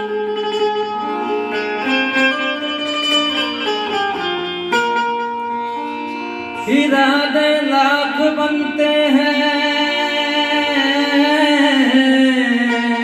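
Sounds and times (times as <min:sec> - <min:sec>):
keyboard melody with banjo-like tone: 0:00.0 - 0:13.0.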